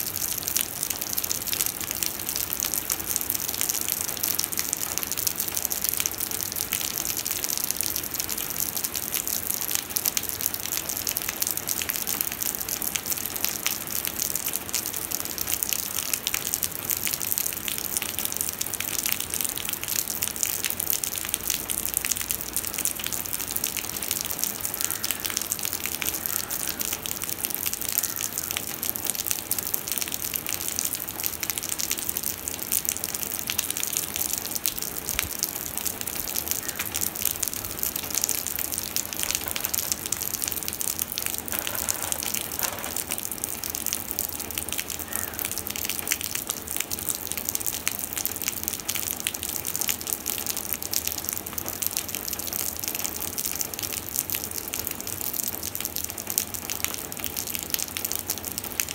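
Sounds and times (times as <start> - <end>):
heavy rain splashing in puddle: 0.0 - 58.9.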